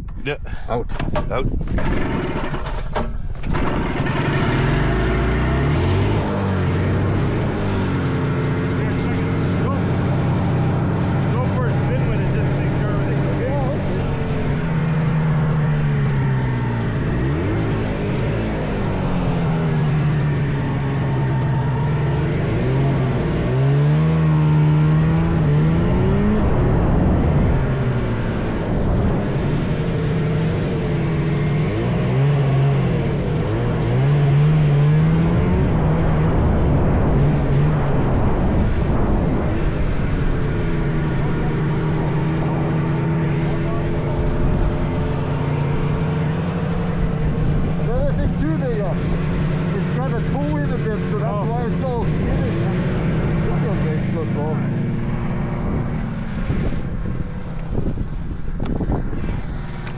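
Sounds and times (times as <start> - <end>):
snowmobile two-stroke engine revving: 1.3 - 59.9.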